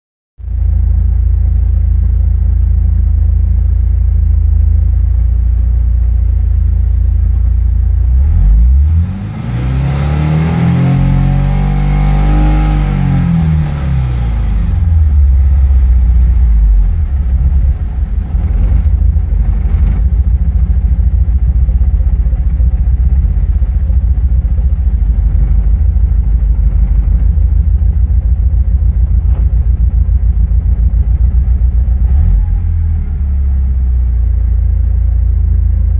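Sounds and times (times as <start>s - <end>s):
car engine idling and revving: 0.4s - 35.9s.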